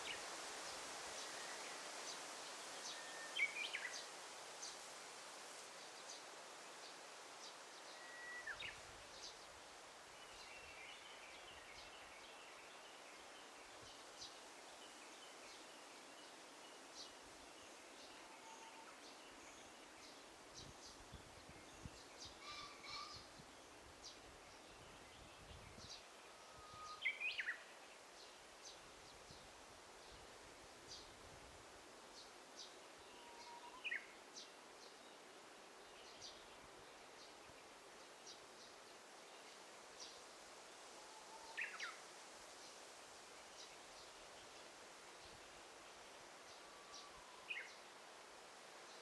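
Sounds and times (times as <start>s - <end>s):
steady hiss: 0.0s - 49.0s.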